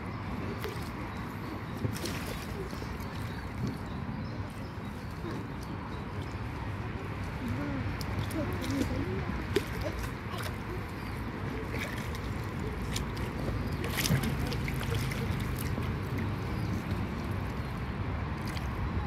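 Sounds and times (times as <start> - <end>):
water lapping against a boat: 0.0 - 19.0
short splashes: 0.5 - 6.3, 7.4 - 19.0.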